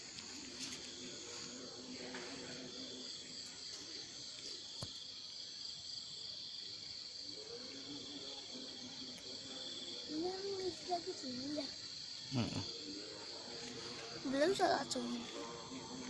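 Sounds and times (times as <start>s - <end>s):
faint low murmuring: 0.0s - 4.8s, 6.8s - 16.0s
night insects chirring: 0.0s - 16.0s.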